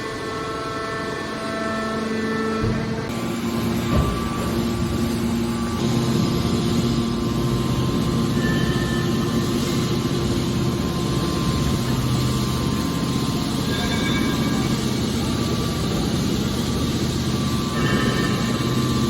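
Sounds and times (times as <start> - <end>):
hydraulic baler machine hum: 0.0 - 19.0.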